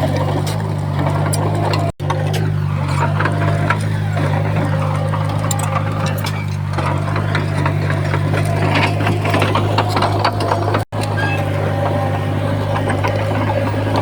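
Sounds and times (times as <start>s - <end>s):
bulldozer diesel engine droning: 0.0s - 14.0s
clanking and rattling: 0.0s - 14.0s.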